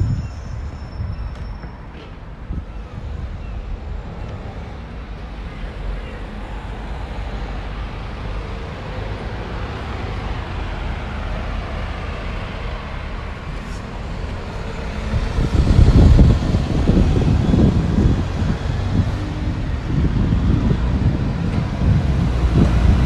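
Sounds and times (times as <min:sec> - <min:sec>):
wind buffeting microphone: 0:00.0 - 0:05.5, 0:09.1 - 0:23.0
bus passing: 0:00.0 - 0:23.0
road traffic: 0:00.0 - 0:23.0.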